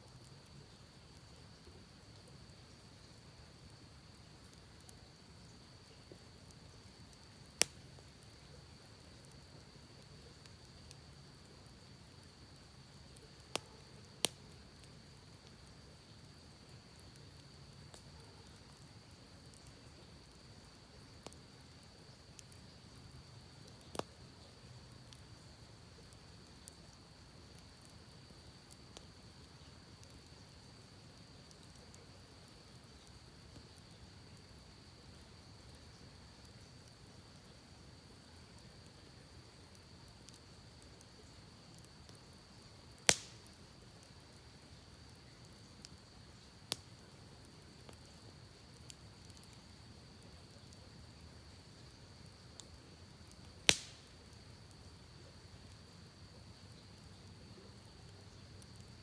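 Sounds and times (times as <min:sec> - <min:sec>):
campfire crackling: 0:00.0 - 0:59.0
soft steady hiss: 0:00.0 - 0:59.0
fire pops: 0:00.2 - 0:37.2, 0:38.2 - 0:59.0.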